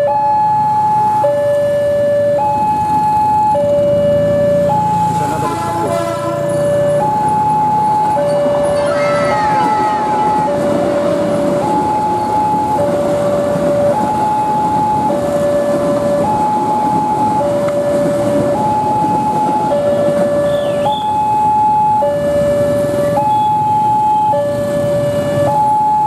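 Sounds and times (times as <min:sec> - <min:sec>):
passing train rumble: 0:00.0 - 0:25.6
two-tone level crossing alarm: 0:00.0 - 0:26.0.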